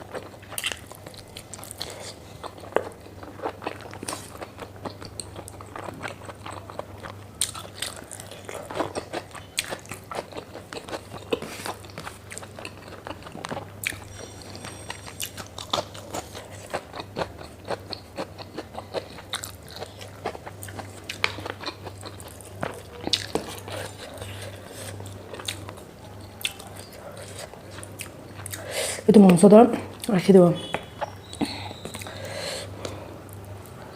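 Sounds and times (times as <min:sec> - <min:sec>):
close chewing and biting: 0:00.0 - 0:28.7.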